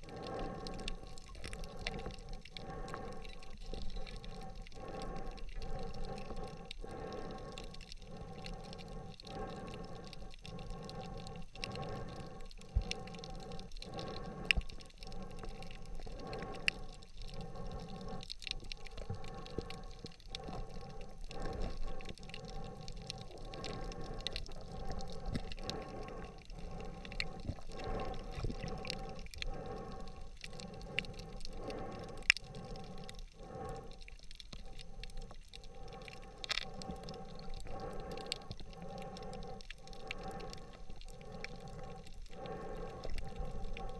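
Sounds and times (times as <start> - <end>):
underwater hiss: 0.0 - 43.9.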